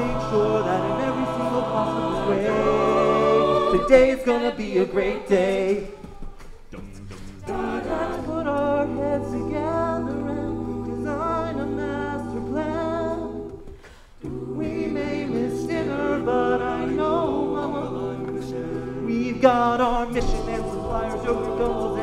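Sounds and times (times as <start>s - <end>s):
a cappella group singing: 0.0s - 22.0s.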